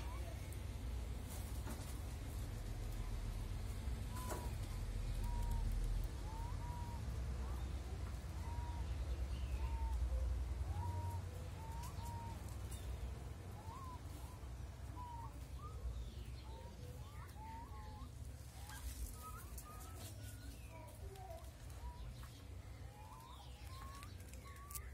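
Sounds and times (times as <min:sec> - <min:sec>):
whistled bird calls: 0:04.1 - 0:07.7, 0:08.3 - 0:24.9.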